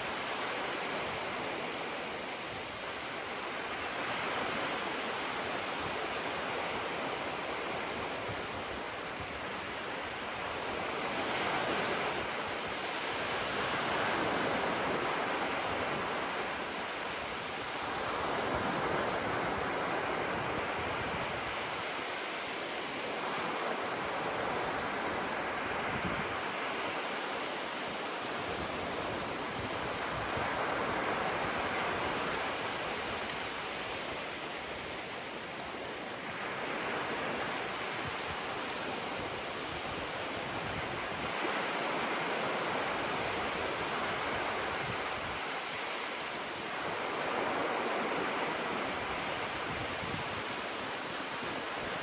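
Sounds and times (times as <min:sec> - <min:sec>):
waves washing on shore: 0:00.0 - 0:52.0.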